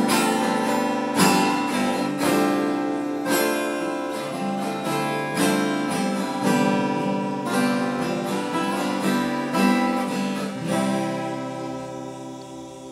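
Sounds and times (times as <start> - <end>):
acoustic guitars strumming chords: 0.0 - 12.9.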